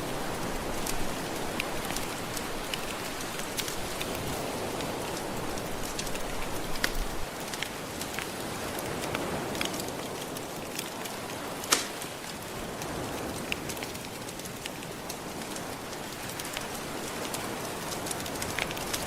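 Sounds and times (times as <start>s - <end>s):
crackling wood fire: 0.0s - 19.0s
gentle ocean waves: 0.0s - 19.0s.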